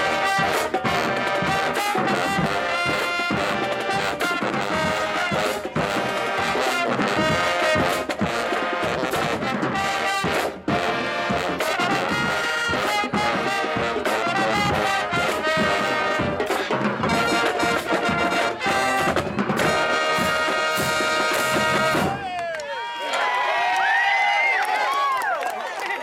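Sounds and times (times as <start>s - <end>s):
drums: 0.0s - 22.4s
marching band brass: 0.0s - 22.4s.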